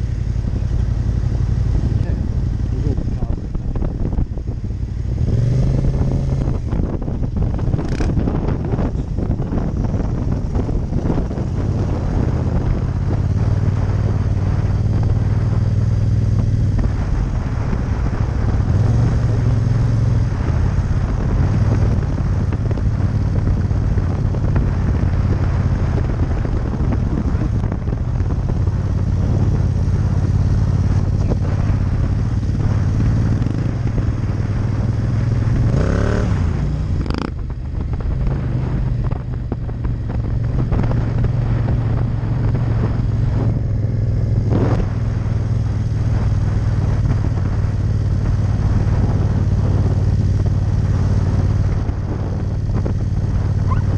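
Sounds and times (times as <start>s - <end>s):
motorcycle engine running: 0.0s - 53.9s
wind noise on microphone: 0.0s - 53.9s.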